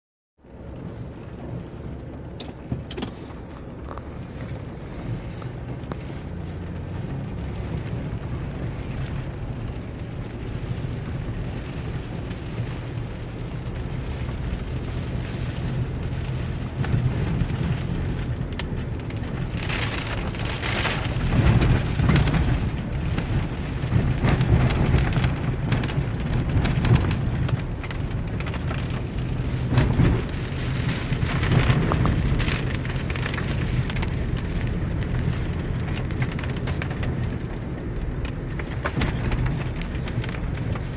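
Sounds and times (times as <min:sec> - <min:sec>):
vehicle driving rumble: 0:00.4 - 0:40.9
rain and wet road hiss: 0:00.5 - 0:40.9.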